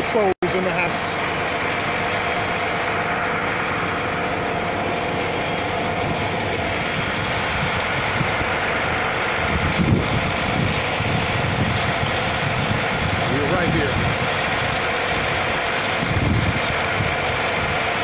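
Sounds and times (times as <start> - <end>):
coach diesel engine running: 0.0 - 18.0.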